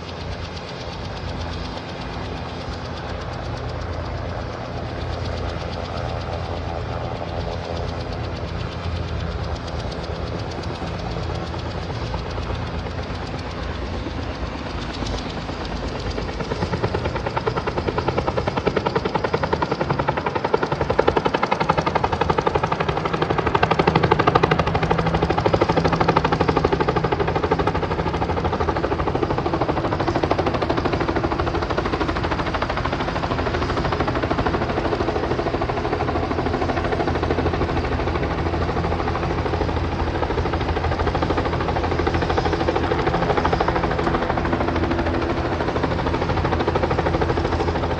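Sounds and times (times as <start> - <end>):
helicopter engine drone: 0.0 - 47.9
helicopter rotor chopping: 0.0 - 47.9.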